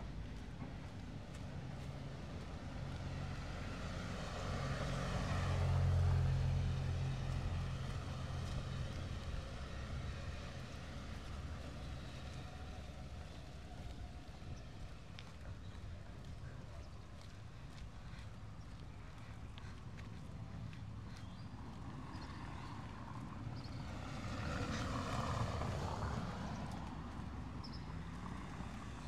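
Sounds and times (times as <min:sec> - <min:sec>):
vehicle passing by: 0:01.6 - 0:29.0.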